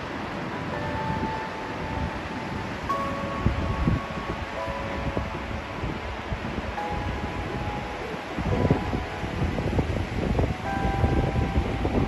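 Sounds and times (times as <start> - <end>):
soft sustained music notes: 0.0 - 12.0
steady rushing noise: 0.0 - 12.0
wind buffeting microphone: 0.0 - 12.0.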